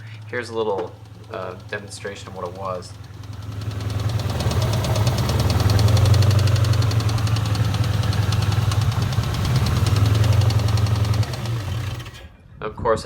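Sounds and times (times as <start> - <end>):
car engine knocking: 0.0 - 12.2.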